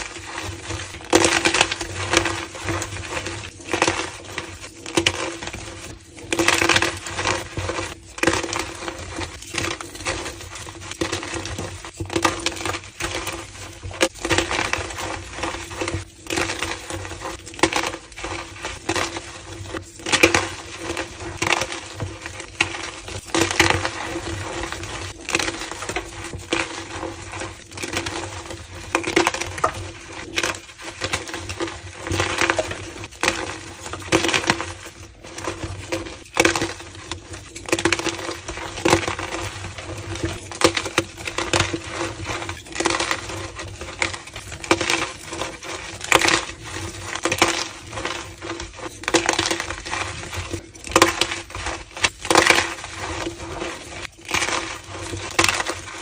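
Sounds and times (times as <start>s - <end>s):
chalk crushing and crunching: 0.0s - 56.0s.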